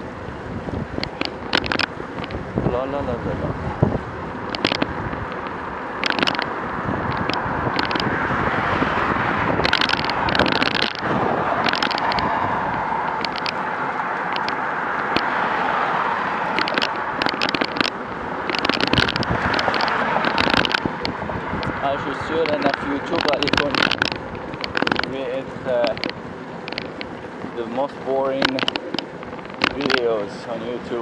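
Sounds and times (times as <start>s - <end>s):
wind rushing on microphone: 0.0s - 31.0s
crackling clicks and knocks: 0.9s - 2.5s, 4.3s - 30.2s.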